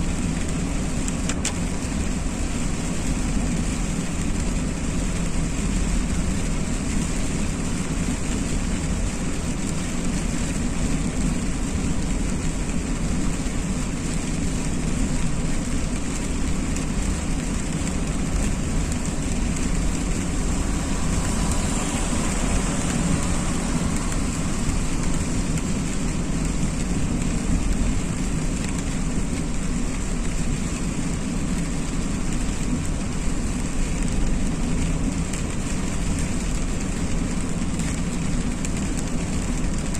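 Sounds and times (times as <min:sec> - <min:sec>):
car driving on wet road: 0:00.0 - 0:39.9
rain hissing: 0:00.0 - 0:39.9.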